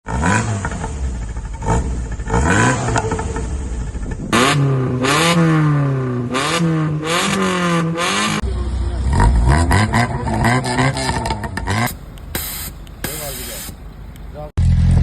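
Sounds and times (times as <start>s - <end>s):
loud engines revving: 0.0s - 15.0s.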